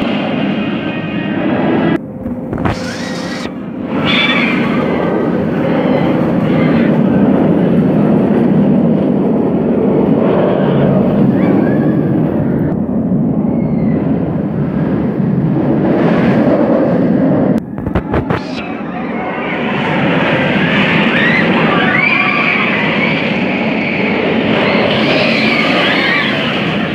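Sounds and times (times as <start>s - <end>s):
roller coaster roaring on rails: 0.0s - 26.9s.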